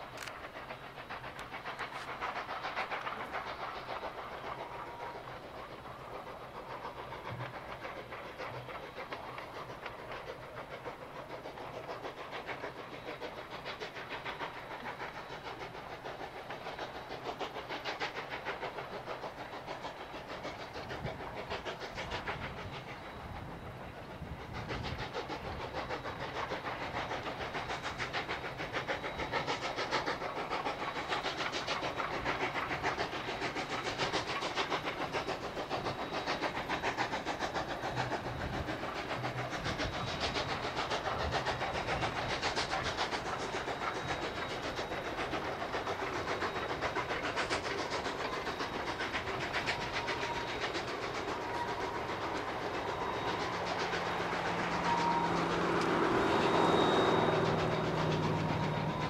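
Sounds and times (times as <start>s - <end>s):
steam locomotive exhaust beating: 0.0s - 59.0s.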